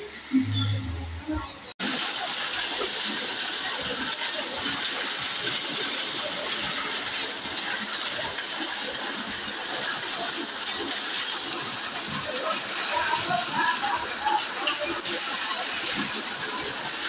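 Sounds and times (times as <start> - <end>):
heavy rain falling: 1.8 - 17.0
water pouring off roof: 1.8 - 17.0
water splashing onto containers: 1.8 - 17.0.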